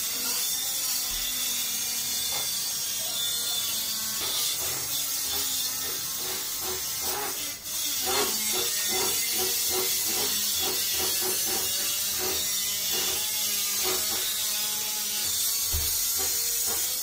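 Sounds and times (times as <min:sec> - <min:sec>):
drywall knife scraping compound: 0:00.0 - 0:17.0.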